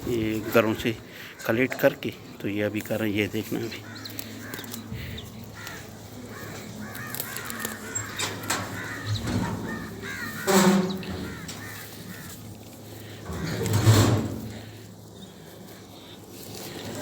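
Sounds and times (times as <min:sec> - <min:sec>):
crows cawing: 0:00.2 - 0:01.9, 0:03.5 - 0:17.0.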